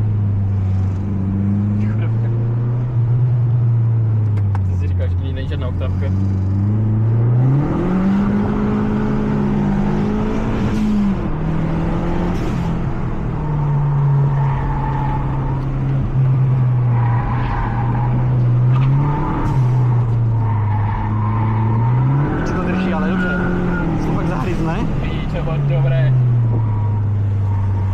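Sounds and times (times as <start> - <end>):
car engine at speed: 0.0 - 27.9.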